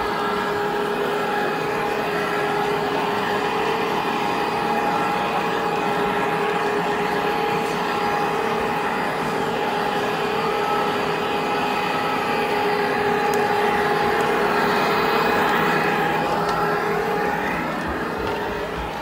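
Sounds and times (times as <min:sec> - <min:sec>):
model trains whirring: 0:00.0 - 0:19.0.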